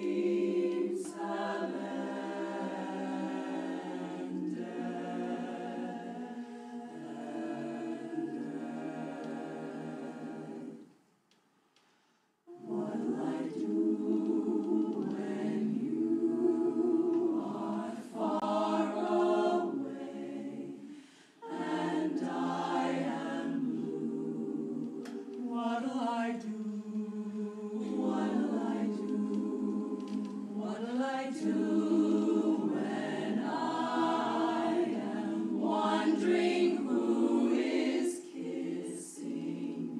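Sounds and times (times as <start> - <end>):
women's chorus singing a cappella: 0.0 - 11.1, 12.5 - 39.9.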